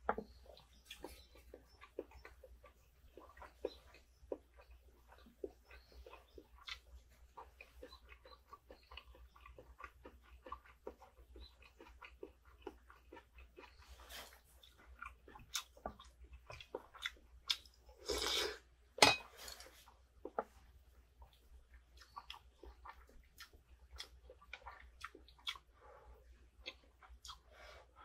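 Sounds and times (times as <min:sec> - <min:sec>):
chewing: 0:00.0 - 0:18.6, 0:19.2 - 0:28.0.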